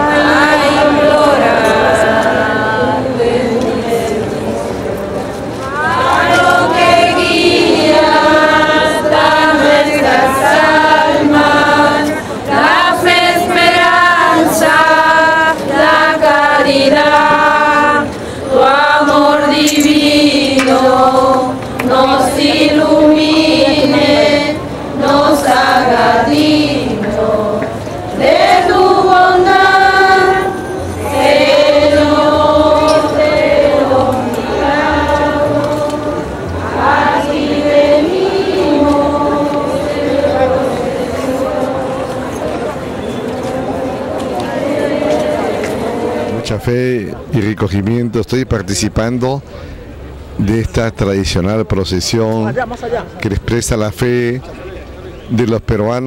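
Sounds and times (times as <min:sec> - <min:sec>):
women singing a hymn: 0:00.0 - 0:46.4.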